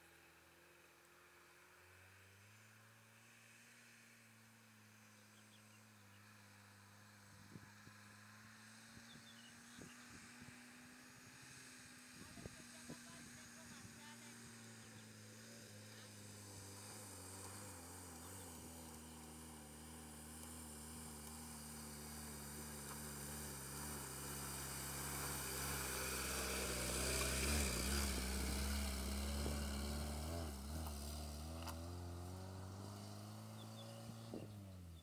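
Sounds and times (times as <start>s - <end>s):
off-road vehicle engine pulling: 0.0s - 35.0s.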